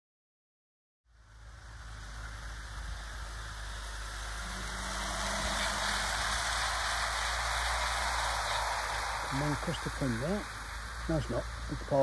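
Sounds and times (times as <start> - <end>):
faint motor hum: 1.1 - 12.0
model train wheels rumbling: 1.3 - 12.0.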